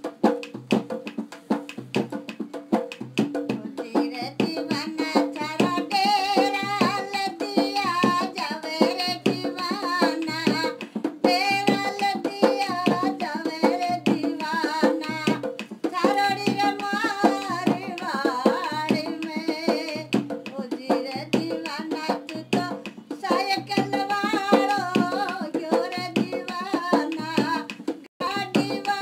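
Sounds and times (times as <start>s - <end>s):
hand drum in quick rhythm: 0.0s - 29.0s
person singing: 3.5s - 29.0s.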